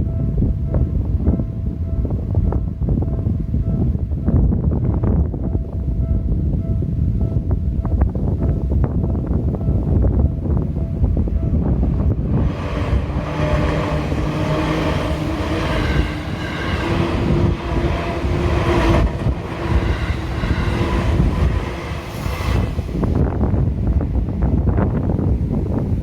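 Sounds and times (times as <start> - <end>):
electric train passing: 0.0 - 26.0
wind on microphone: 0.0 - 26.0.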